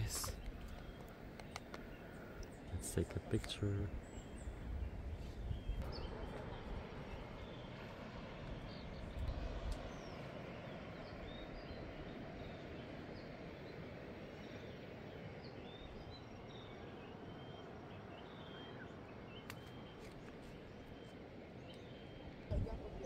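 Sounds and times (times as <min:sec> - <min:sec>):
birds chirping: 0:00.0 - 0:23.0
outdoor background rush: 0:00.0 - 0:23.0.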